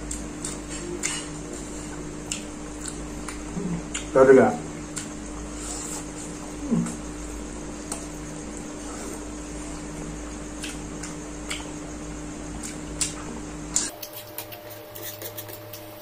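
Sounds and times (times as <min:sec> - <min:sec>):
person chewing food: 0:00.0 - 0:04.1, 0:04.7 - 0:16.0
steady low hum: 0:00.0 - 0:16.0.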